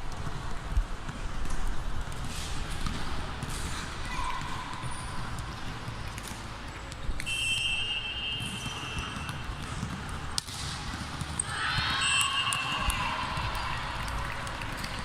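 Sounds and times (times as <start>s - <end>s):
basketball bouncing: 0.0s - 15.0s
shoes squeaking on court: 1.0s - 14.2s.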